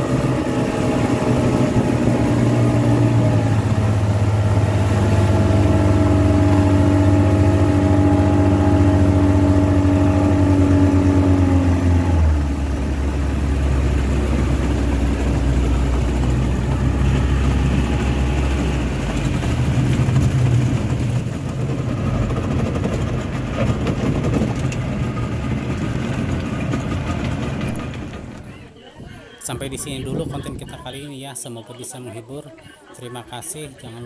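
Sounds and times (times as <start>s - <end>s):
rushing wind and water: 0.0s - 28.4s
outboard engine running: 0.0s - 30.9s.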